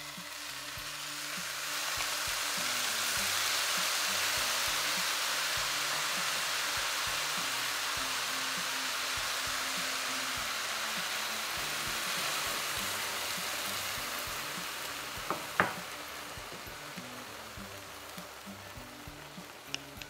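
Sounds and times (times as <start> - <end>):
food sizzling in a frying pan: 0.0 - 20.0
music with low bass notes: 0.0 - 20.0
steady hiss: 0.0 - 20.0.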